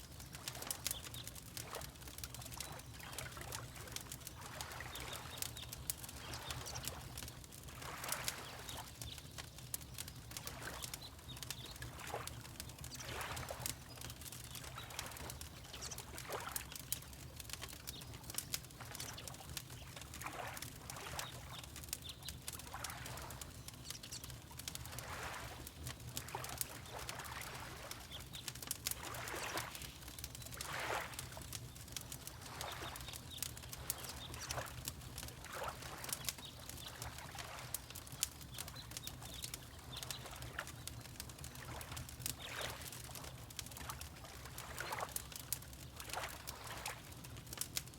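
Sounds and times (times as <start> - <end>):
fire crackling and popping: 0.0 - 47.9
water lapping: 2.6 - 7.0, 7.7 - 9.1, 10.4 - 21.6, 22.5 - 23.5, 24.8 - 31.4, 32.2 - 47.2.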